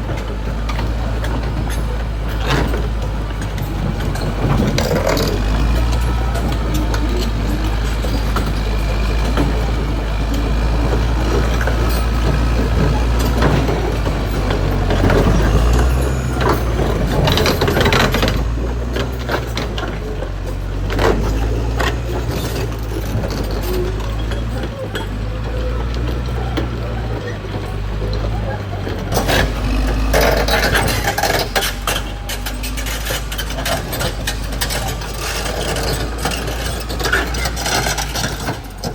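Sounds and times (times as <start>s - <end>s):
bulldozer engine drone: 0.0s - 38.9s
clatter of bulldozer tracks: 0.0s - 38.9s.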